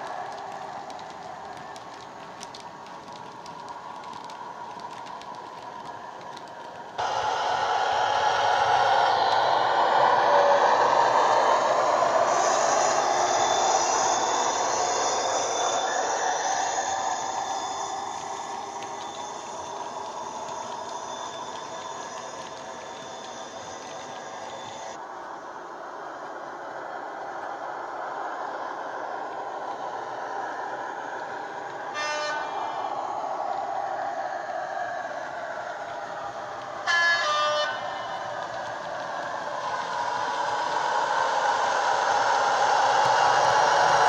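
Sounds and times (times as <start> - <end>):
wheels clicking on track: 0.0 - 25.0, 28.6 - 44.0
model locomotive engine sound: 0.0 - 44.0.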